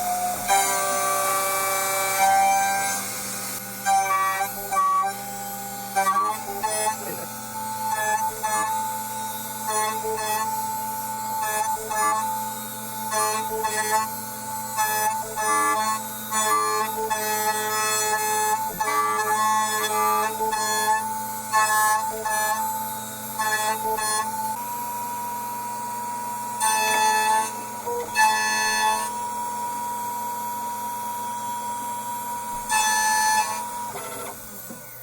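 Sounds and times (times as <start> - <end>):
stepper motors whining: 0.0 - 35.0.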